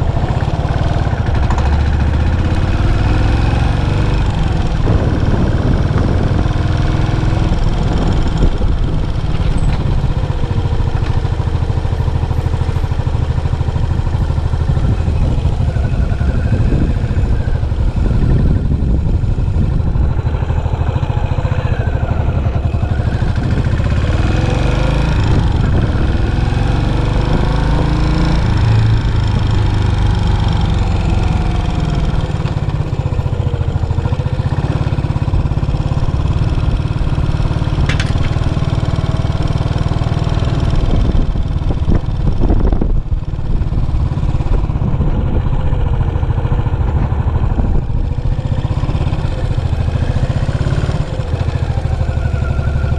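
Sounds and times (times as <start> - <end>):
motorcycle engine exhaust pulsing: 0.0 - 52.9.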